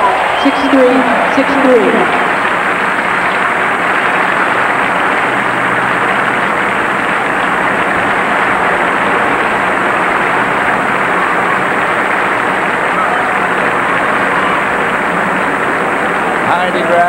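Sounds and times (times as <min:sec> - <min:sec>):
stadium crowd applauding: 0:00.0 - 0:17.0.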